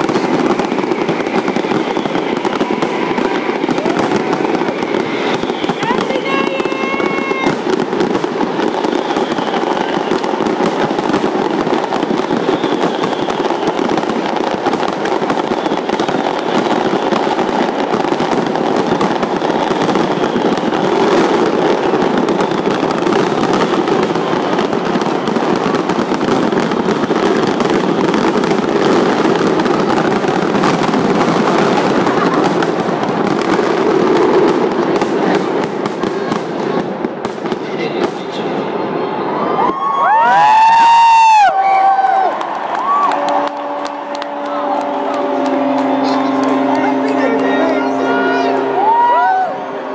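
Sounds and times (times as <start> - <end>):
fireworks bangs and crackles: 0.0 - 49.9
fireworks whistles: 0.0 - 49.9.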